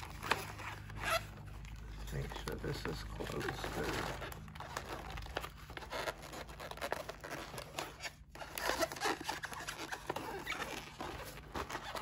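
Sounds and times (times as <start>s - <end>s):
photo paper crinkling and rustling: 0.0s - 12.0s.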